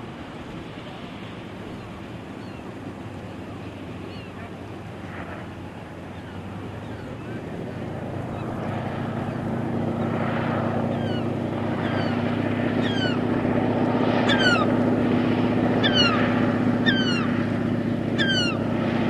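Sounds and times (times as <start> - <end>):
floatplane engine running: 0.0 - 19.0.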